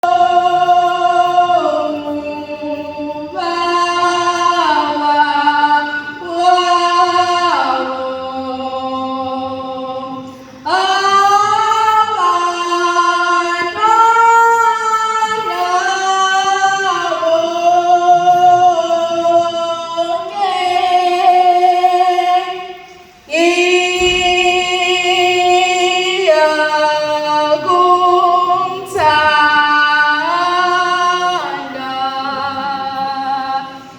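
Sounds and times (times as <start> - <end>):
women singing: 0.0 - 33.9.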